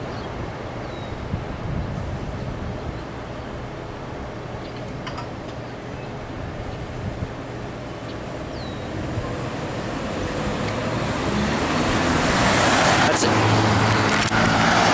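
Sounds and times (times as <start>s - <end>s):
car engines and tyre noise: 0.0s - 14.9s.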